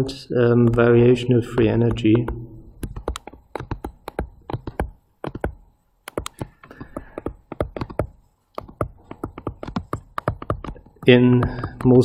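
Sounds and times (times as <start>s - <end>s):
stylus tapping on tablet screen: 0.6s - 12.0s.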